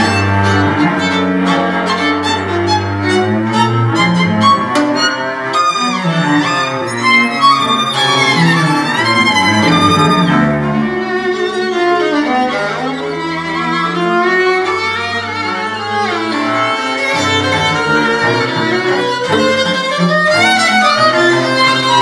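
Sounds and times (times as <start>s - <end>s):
bowed string music: 0.0s - 22.0s
sliding pitch glide: 0.0s - 22.0s.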